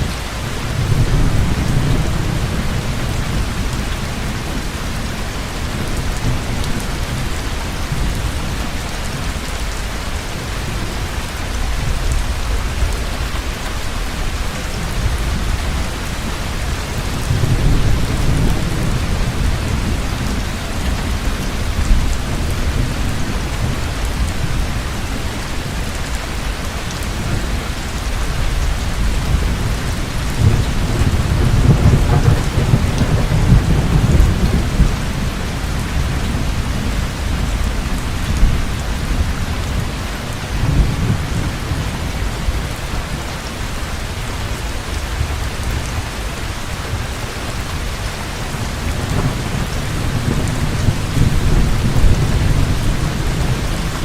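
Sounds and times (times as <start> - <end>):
thunder rumbling: 0.0 - 9.4, 10.4 - 47.2, 47.8 - 54.0
heavy rain pouring: 0.0 - 54.0.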